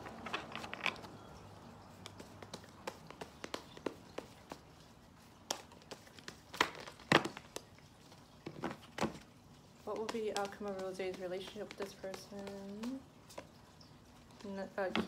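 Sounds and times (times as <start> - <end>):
cards being shuffled: 0.0 - 1.3, 1.9 - 13.6.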